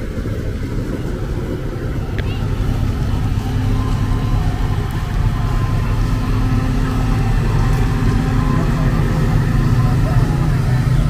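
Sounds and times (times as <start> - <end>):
vehicle engines rumbling: 0.0 - 11.0.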